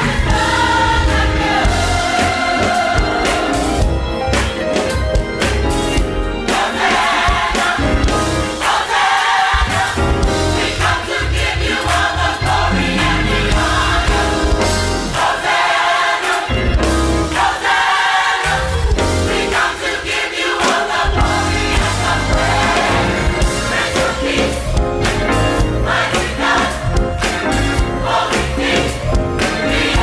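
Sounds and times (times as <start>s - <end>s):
gospel choir singing: 0.0s - 5.0s, 5.6s - 30.0s
band with bass keyboard and drums: 0.0s - 15.6s, 16.5s - 17.5s, 18.4s - 19.8s, 20.7s - 30.0s.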